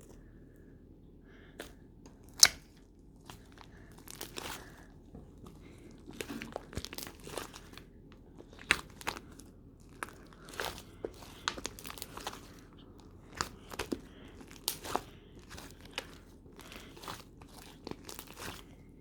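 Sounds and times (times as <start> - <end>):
crinkling and crackling: 1.6 - 19.0.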